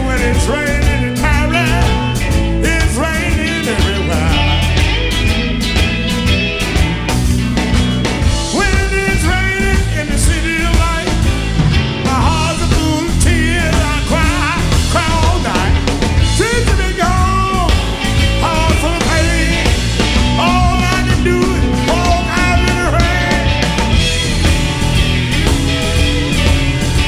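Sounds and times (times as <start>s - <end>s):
bending guitar lead line: 0.0s - 27.0s
blues band playing: 0.0s - 27.0s.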